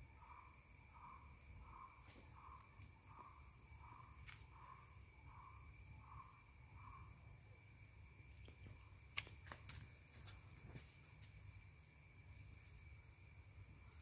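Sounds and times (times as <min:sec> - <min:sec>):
insect trill: 0:00.0 - 0:14.0.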